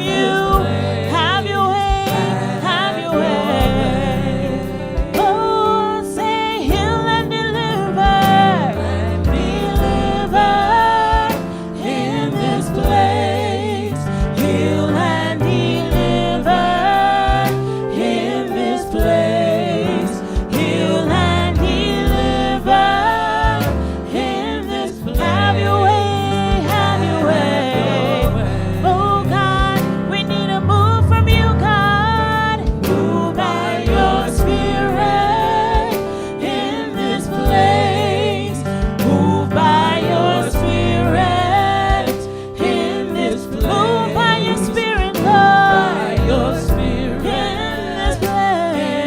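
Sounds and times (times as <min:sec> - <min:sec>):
band with bass line: 0:00.0 - 0:49.0
gospel singing voices: 0:00.0 - 0:49.0.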